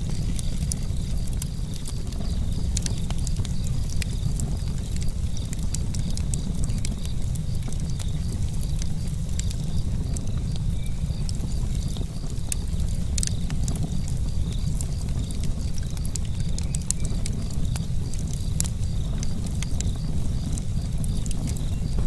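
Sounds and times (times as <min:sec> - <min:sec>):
sharp crackles: 0:00.0 - 0:22.0
wind rumbling on microphone: 0:00.0 - 0:22.0.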